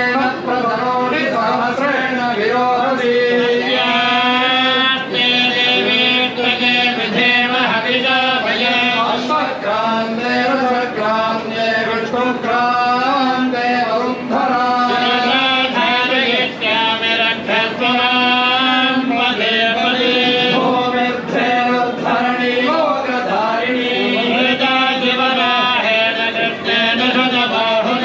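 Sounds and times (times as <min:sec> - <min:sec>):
group chanting in unison: 0:01.2 - 0:28.0.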